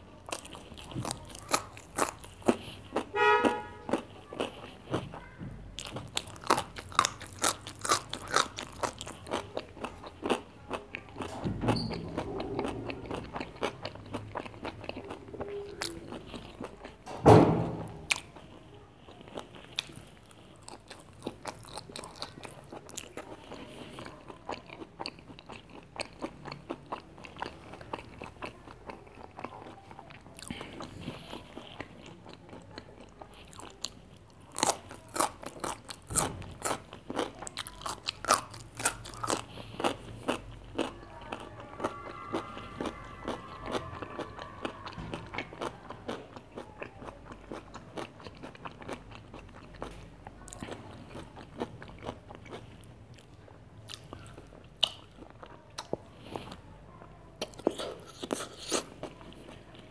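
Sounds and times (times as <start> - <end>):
chewing and crunching food: 0.0 - 17.1, 17.8 - 59.9.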